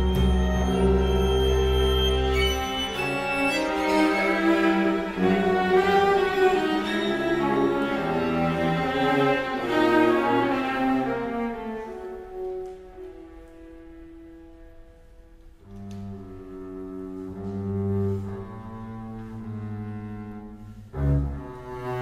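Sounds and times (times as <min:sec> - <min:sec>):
string orchestra playing chords: 0:00.0 - 0:22.0.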